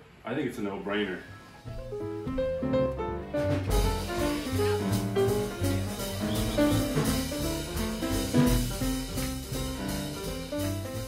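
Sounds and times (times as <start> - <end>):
jazz background music: 1.3 - 11.0
drum kit beat: 1.7 - 11.0.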